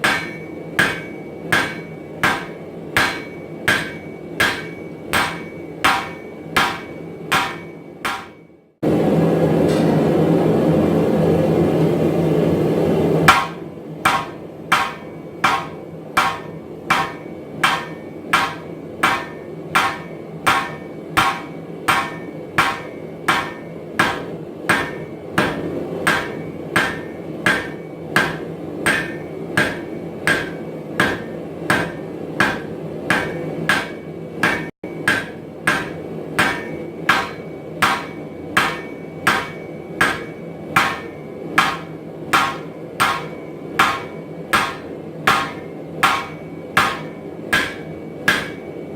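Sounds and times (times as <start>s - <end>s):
hammer striking metal on anvil: 0.0s - 8.6s, 13.3s - 48.9s.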